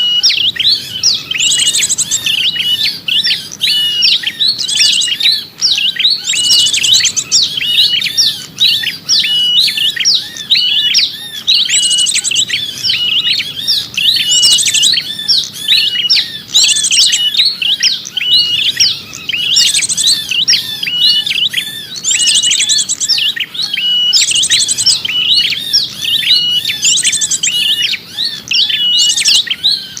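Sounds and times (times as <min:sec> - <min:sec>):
high bird chirps: 0:00.0 - 0:30.0.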